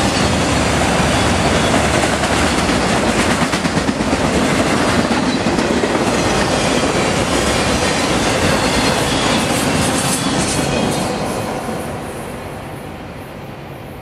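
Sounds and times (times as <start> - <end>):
steel train wheels on rails: 0.0 - 14.0.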